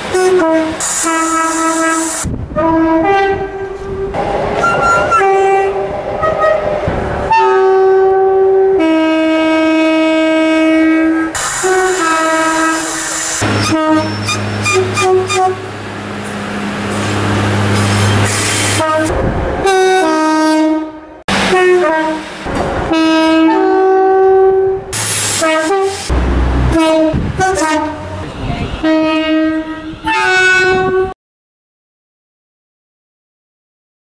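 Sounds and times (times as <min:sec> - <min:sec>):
two-tone train horns: 0:00.0 - 0:15.8, 0:18.0 - 0:22.3, 0:22.9 - 0:26.1, 0:26.7 - 0:31.2
diesel railcar engine: 0:00.0 - 0:31.1.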